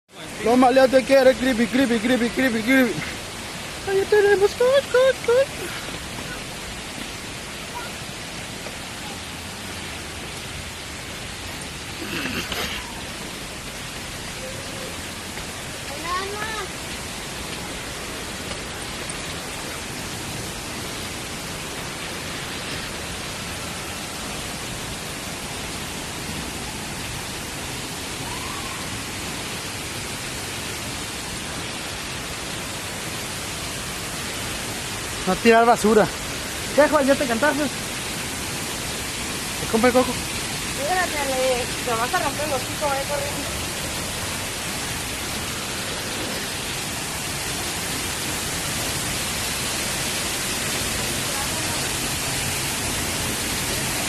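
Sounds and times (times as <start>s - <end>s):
waterfall rushing: 0.1s - 54.0s.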